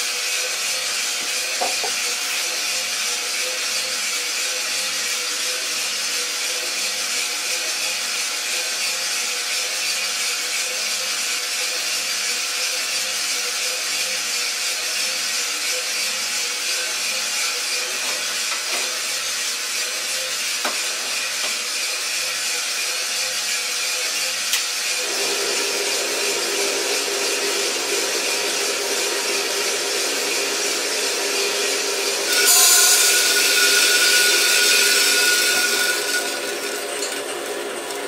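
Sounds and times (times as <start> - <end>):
coffee roaster hissing: 0.0 - 38.0.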